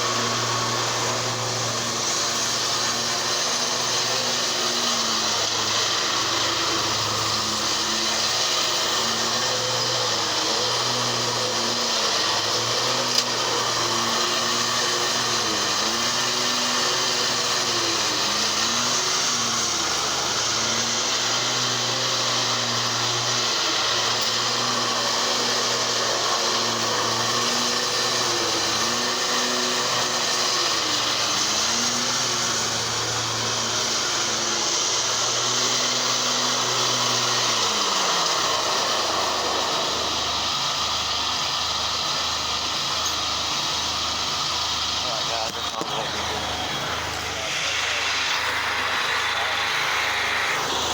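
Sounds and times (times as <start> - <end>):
cutting blades whirring: 0.0 - 50.9
riding lawn mower running: 0.0 - 50.9.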